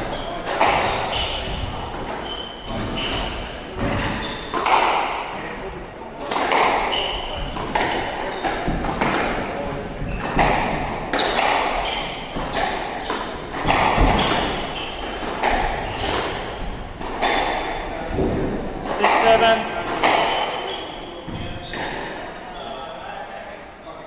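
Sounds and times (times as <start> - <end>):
shoes squeaking on wooden floor: 0.0 - 4.8, 6.5 - 22.9
squash ball hits echoing: 0.0 - 5.5, 6.2 - 22.2.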